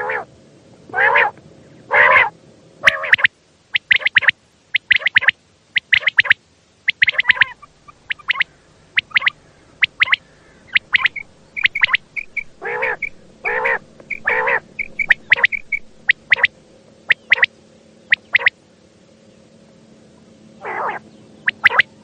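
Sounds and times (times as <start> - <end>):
quail calling: 0.0 - 0.3, 0.9 - 17.5, 18.1 - 18.5, 20.6 - 22.0.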